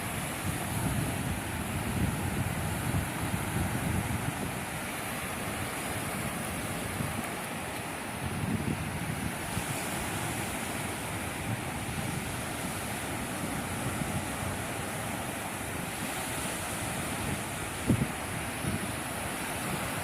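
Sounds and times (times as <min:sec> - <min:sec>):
wind buffeting microphone: 0:00.0 - 0:07.4, 0:08.1 - 0:20.0
sea waves washing ashore: 0:00.0 - 0:20.0.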